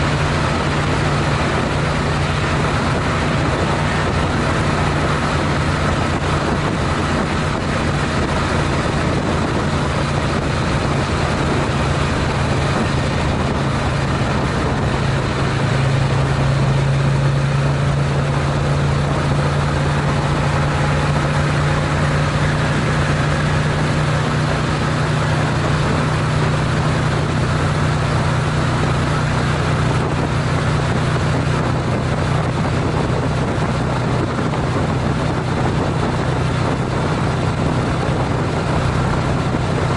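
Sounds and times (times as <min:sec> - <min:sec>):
motorcycle engine droning: 0:00.0 - 0:39.9
wind and road noise: 0:00.0 - 0:39.9.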